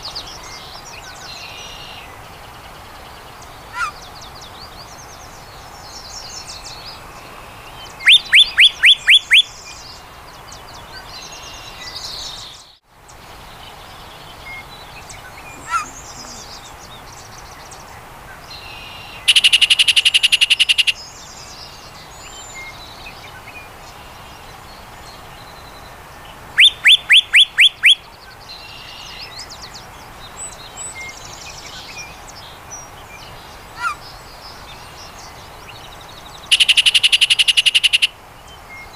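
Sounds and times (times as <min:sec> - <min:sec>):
bird singing jumbled song: 0:00.0 - 0:38.9
steady background hiss: 0:00.0 - 0:38.9.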